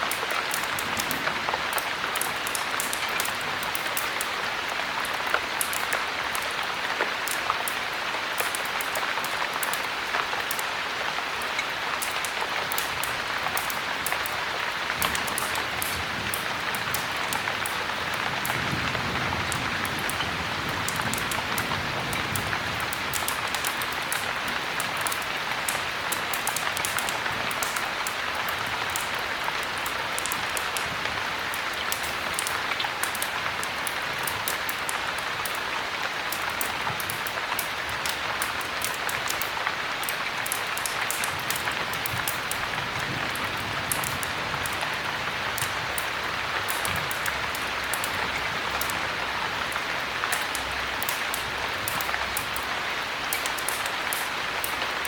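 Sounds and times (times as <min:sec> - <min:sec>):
heavy rain falling: 0:00.0 - 0:55.0
small sharp ticks: 0:00.1 - 0:04.4, 0:07.2 - 0:10.7, 0:11.4 - 0:18.7, 0:19.4 - 0:35.7, 0:36.3 - 0:42.7, 0:45.6 - 0:49.0, 0:50.3 - 0:54.9.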